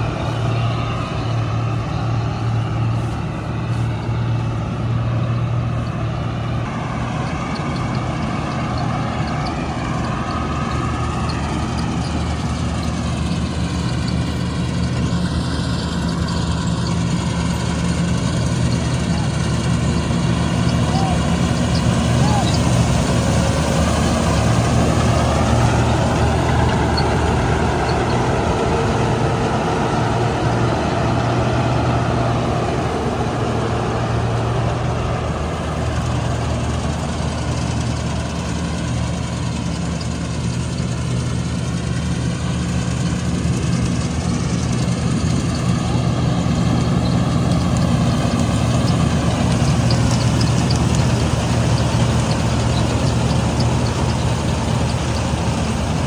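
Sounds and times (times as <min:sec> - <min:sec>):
diesel engine humming: 0:00.0 - 0:56.0
wavering machinery whine: 0:00.0 - 0:56.0.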